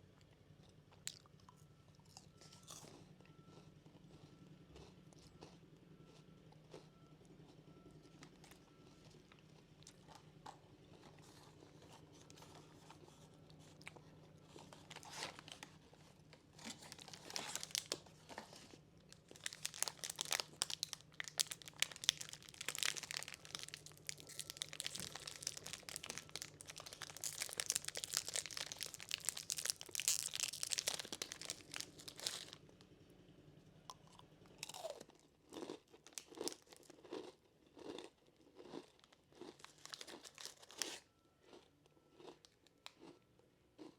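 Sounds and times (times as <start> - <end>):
faint steady hum: 0.0 - 43.9
crunchy snacks being chewed: 0.2 - 32.7, 33.9 - 43.9.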